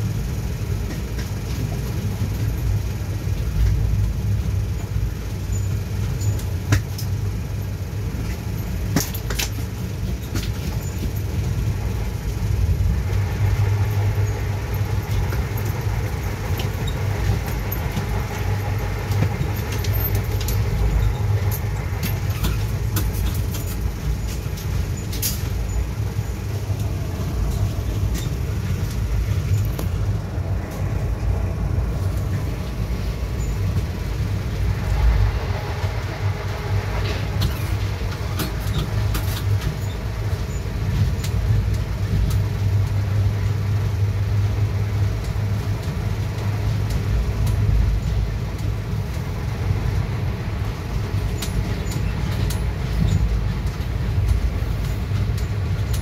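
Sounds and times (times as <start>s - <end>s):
train rumbling at speed: 0.0s - 56.0s
sharp clicks and rattles: 8.2s - 43.5s, 44.7s - 56.0s.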